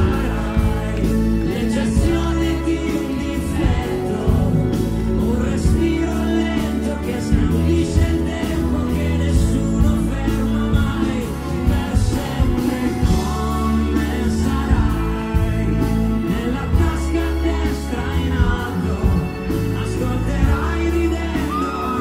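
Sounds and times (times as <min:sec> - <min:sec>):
bass guitar: 0:00.0 - 0:22.0
drums: 0:00.0 - 0:22.0
man singing: 0:00.0 - 0:22.0
pop-rock band playing: 0:00.0 - 0:22.0.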